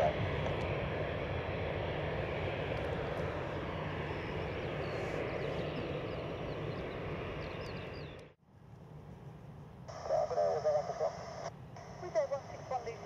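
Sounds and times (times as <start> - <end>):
jet engines roaring: 0.0 - 8.4, 9.9 - 13.0.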